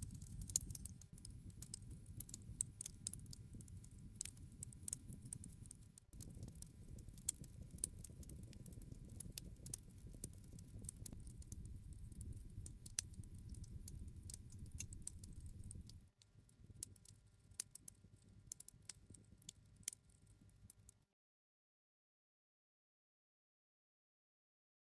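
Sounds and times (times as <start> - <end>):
low rumble of burning wood: 0.0 - 20.1
campfire crackling and popping: 0.0 - 20.4.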